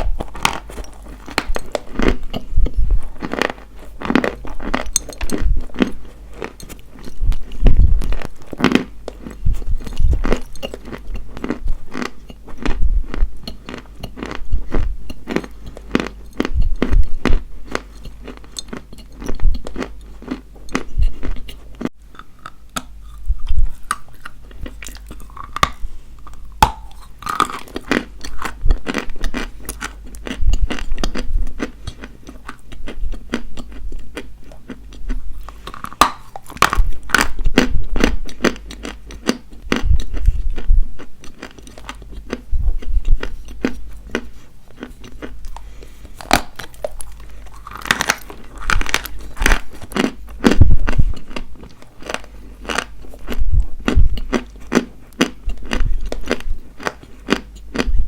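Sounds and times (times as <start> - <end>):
chalk being chewed: 0.0 - 57.9.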